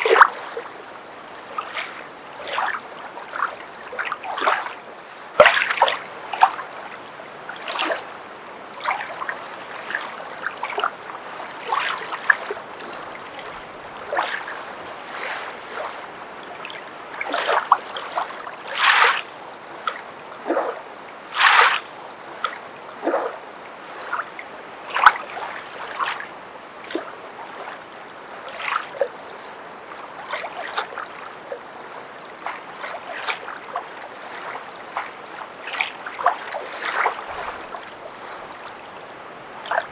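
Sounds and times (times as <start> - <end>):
footsteps wading through water: 0.0 - 24.3, 24.9 - 39.9.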